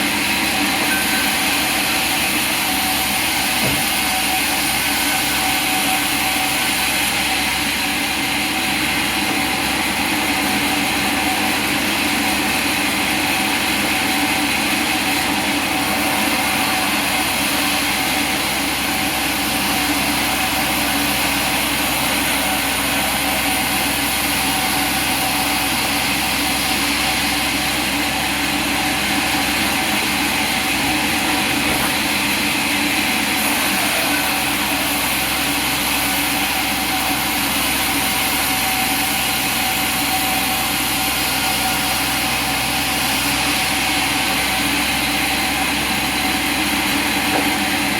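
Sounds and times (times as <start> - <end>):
sawmill machinery humming: 0.0 - 47.9.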